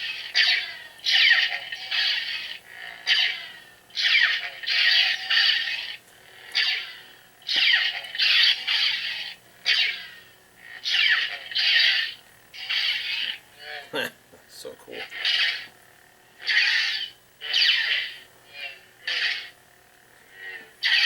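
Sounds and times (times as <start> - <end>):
faint lightsaber hum: 0.0 - 21.0.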